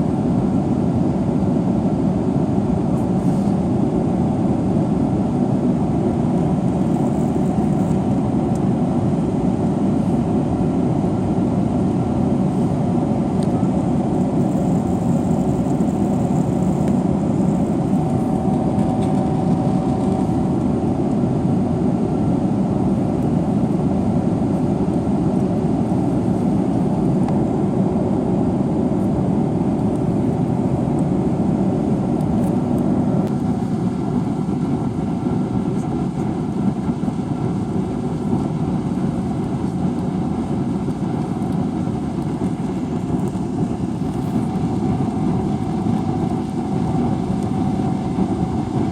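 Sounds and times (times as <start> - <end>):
jet engine rumble in cabin: 0.0 - 48.9.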